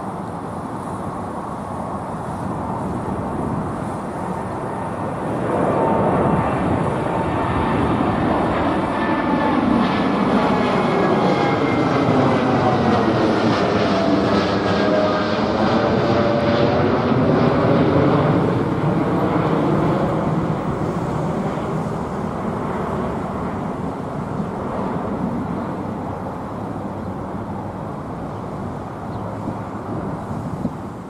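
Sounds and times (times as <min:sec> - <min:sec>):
jet engines roaring at takeoff: 0:00.0 - 0:31.0.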